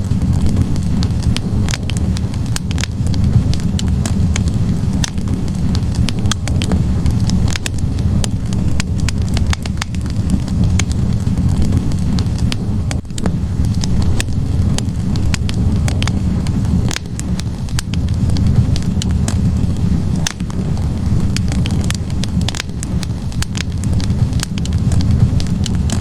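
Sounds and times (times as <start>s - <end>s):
rumble of fire flames: 0.0s - 26.0s
wood fire crackling and popping: 0.0s - 26.0s.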